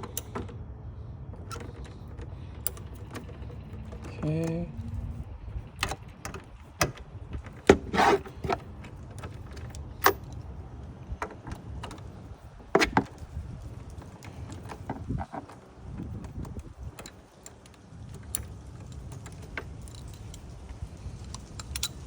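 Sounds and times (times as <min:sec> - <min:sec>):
tools clicking and knocking: 0:00.0 - 0:00.6, 0:01.2 - 0:22.0
tools and parts rattling: 0:00.0 - 0:22.0.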